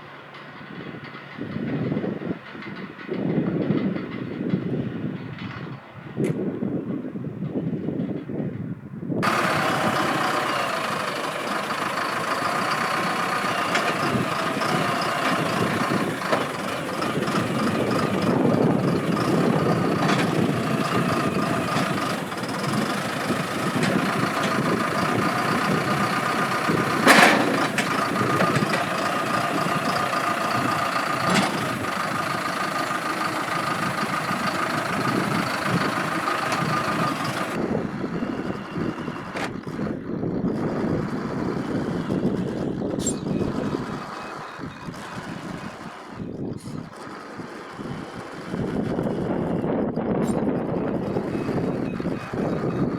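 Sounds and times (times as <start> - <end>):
diesel engine running: 9.2 - 52.9
machinery whine: 9.2 - 52.9.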